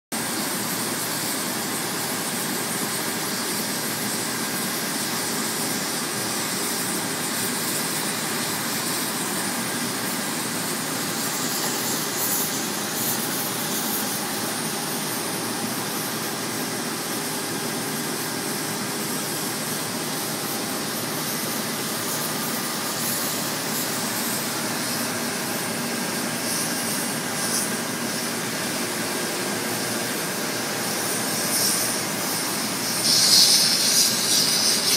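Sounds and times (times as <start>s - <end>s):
cutting torch hissing: 0.2s - 34.9s.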